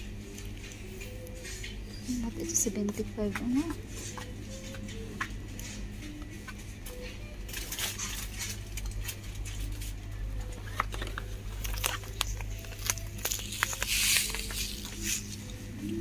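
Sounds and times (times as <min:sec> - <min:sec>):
store hum: 0:00.0 - 0:16.0
plastic rustling: 0:00.2 - 0:16.0.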